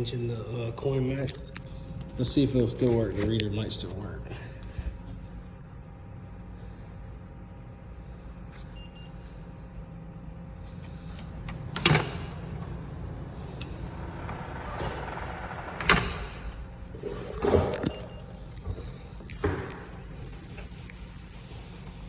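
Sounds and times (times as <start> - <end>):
vending machine hum: 0.0 - 22.0.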